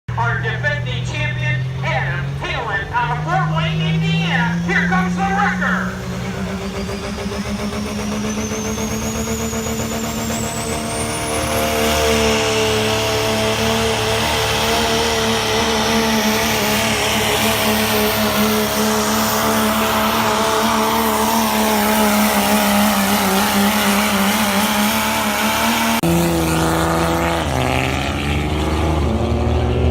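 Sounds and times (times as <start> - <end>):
diesel truck engine at high revs: 0.1 - 29.9.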